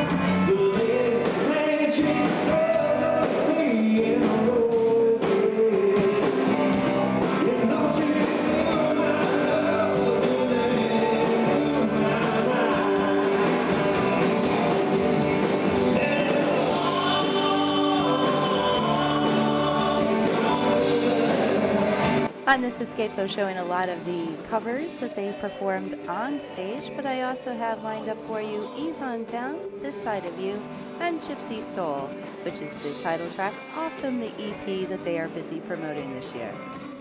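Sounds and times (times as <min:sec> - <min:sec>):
live country-rock band: 0:00.0 - 0:37.0
person singing lead vocal: 0:00.0 - 0:37.0.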